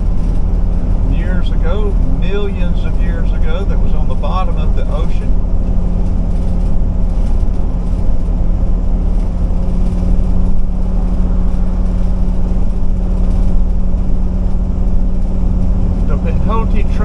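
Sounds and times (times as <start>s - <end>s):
motorhome engine cruising: 0.0s - 17.0s
road noise: 0.0s - 17.0s.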